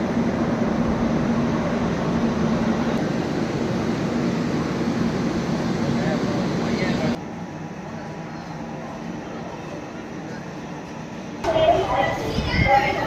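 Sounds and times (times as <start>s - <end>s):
train coaches humming: 0.0s - 13.0s.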